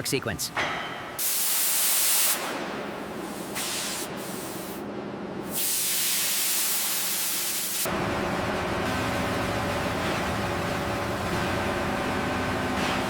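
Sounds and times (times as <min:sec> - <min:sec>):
machinery hum with low drone: 0:02.5 - 0:13.0.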